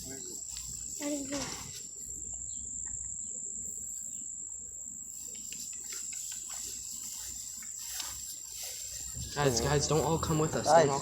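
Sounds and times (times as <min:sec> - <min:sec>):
faint ticks and rustles: 0:00.0 - 0:03.1, 0:03.7 - 0:11.0
insect trill chorus: 0:00.0 - 0:11.0.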